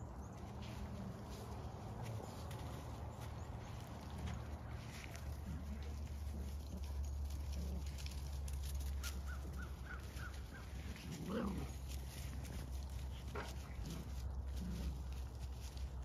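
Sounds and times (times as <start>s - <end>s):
paws rustling in leaves: 0.0s - 16.0s.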